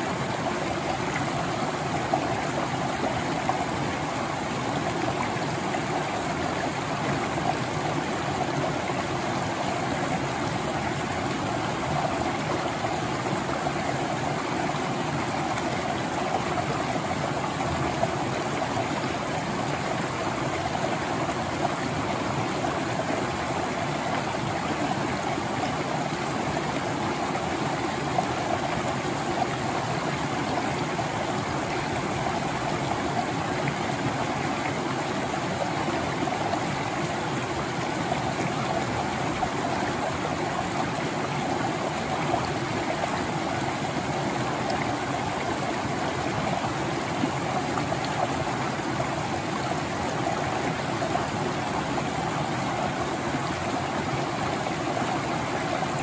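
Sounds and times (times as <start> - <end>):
creek water rushing and splashing: 0.0 - 56.0.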